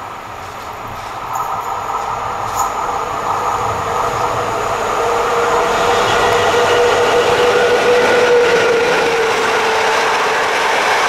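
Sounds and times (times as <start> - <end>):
train rolling rumble: 0.0 - 11.0.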